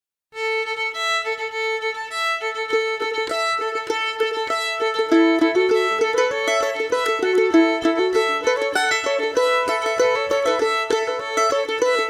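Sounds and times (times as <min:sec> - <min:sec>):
fiddle playing folk tune: 0:00.4 - 0:12.0.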